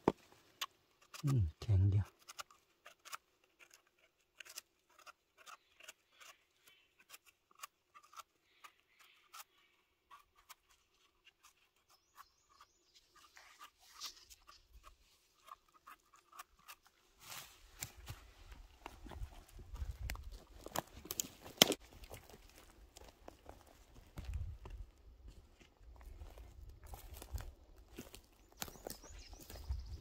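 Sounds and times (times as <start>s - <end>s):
crackles of dry forest litter: 0.0s - 30.0s.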